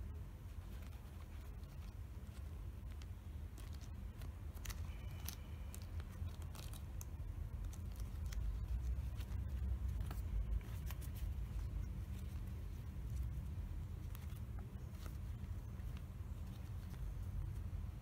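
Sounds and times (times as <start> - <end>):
mask filter crinkling: 0.0 - 18.0
steady low hum: 0.0 - 18.0.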